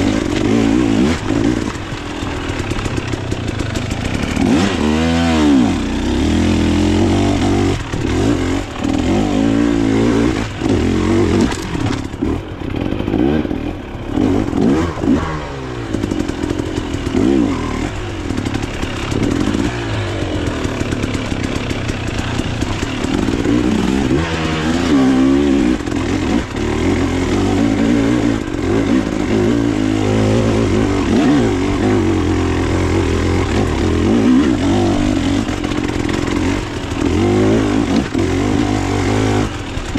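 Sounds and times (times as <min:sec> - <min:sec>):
clatter over rough ground: 0:00.0 - 0:39.9
dirt bike engine revving: 0:00.0 - 0:39.9.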